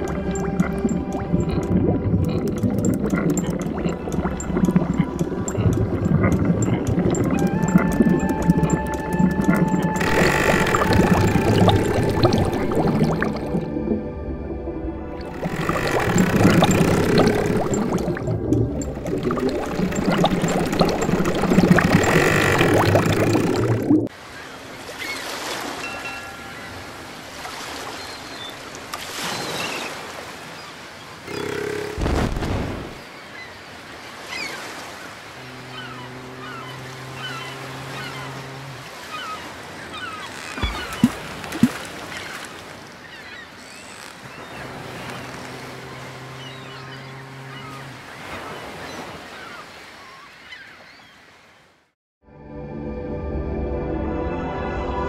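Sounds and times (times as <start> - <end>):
ocean waves washing: 0.0 - 51.7.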